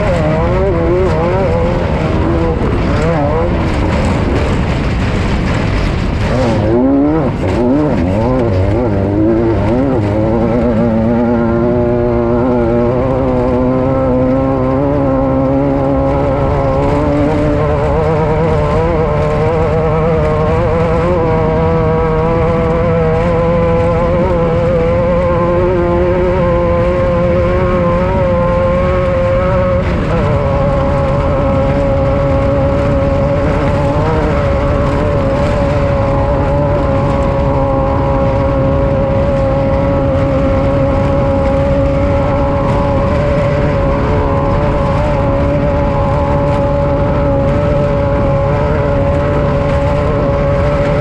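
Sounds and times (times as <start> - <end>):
constant rumble: 0.0 - 51.0
race vehicle engine revving: 0.0 - 51.0.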